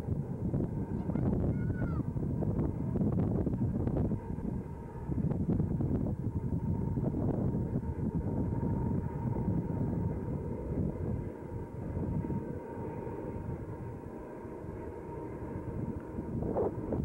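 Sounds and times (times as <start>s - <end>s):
distant freight train rumble: 0.0s - 17.0s
wind buffeting microphone: 0.0s - 17.0s.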